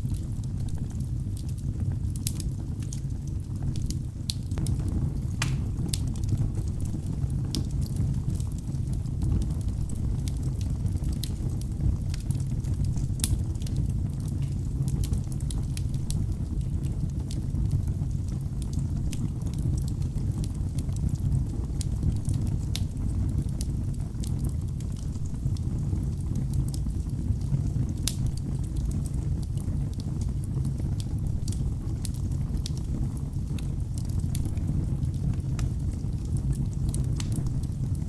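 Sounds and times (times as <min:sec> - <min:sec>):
fire rumbling in fireplace: 0:00.0 - 0:38.0
wood crackling and popping: 0:00.0 - 0:38.0.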